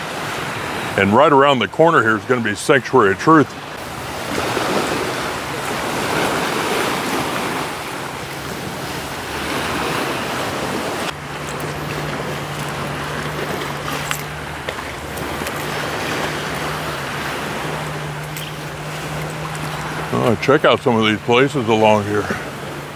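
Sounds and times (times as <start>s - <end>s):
sea waves breaking on shore: 0.0s - 22.9s
wind buffeting microphone: 3.4s - 22.9s
steady low hum: 3.7s - 22.9s.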